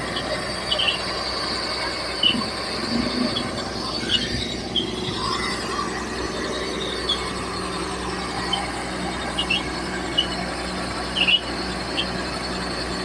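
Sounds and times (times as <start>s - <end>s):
high squeaks: 0.0s - 1.2s, 2.1s - 12.3s
diesel engine running: 0.0s - 13.0s.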